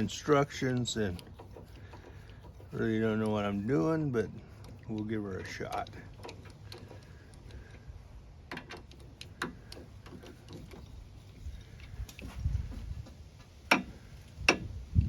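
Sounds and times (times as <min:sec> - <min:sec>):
hand tools clicking and tapping metal: 0:00.0 - 0:07.8, 0:08.5 - 0:14.8
low rumble of handling: 0:00.0 - 0:15.0.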